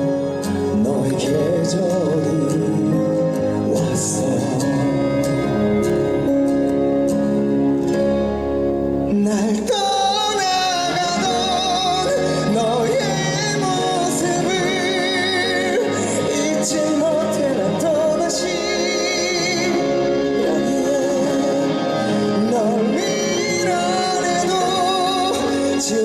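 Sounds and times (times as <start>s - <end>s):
person singing with vibrato: 0.0s - 7.5s, 8.9s - 26.0s
full band accompaniment: 0.0s - 26.0s.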